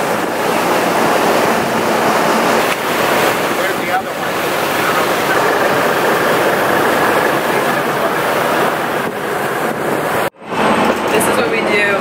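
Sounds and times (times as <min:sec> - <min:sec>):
boat engines running: 0:00.0 - 0:12.0
rush of water from wake: 0:00.0 - 0:12.0.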